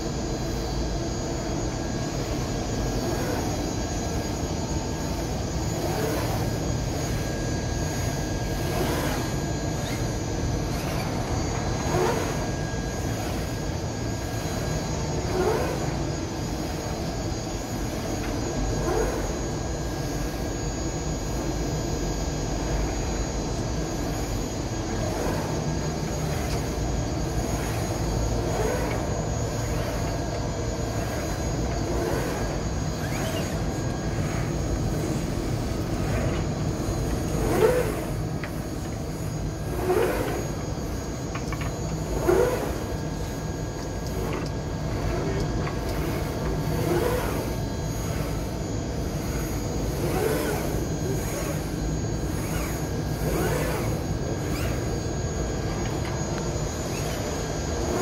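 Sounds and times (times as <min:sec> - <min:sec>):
laser cutter hum: 0:00.0 - 0:58.0
rising gantry whir: 0:00.0 - 0:58.0.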